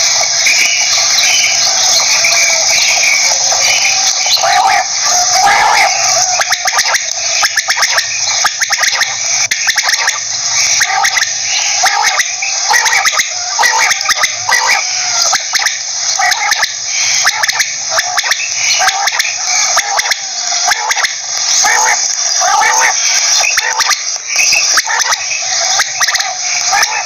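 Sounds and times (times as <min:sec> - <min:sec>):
quail calling: 0:00.0 - 0:27.0.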